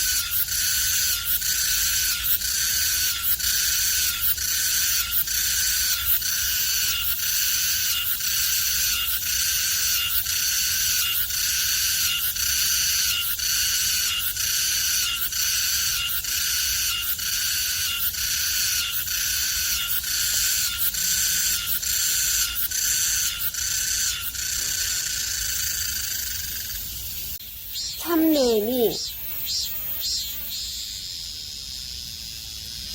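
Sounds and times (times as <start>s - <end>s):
cicada buzzing song: 0.0s - 32.9s.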